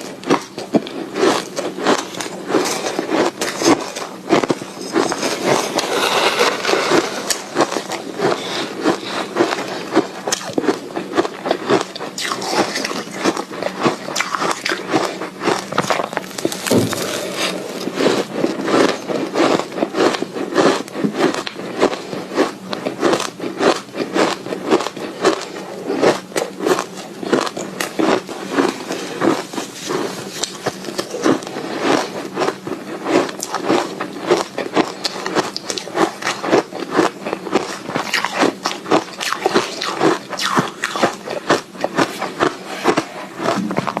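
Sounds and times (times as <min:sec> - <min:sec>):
ice being chewed: 0:00.0 - 0:44.0.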